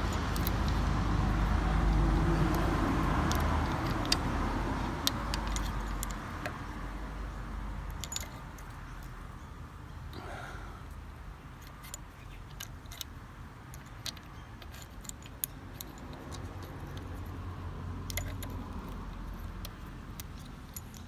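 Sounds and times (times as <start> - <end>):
metallic clicks of brake parts: 0.0 - 6.9, 7.8 - 9.4, 10.1 - 21.0
low vehicle rumble: 0.0 - 21.0.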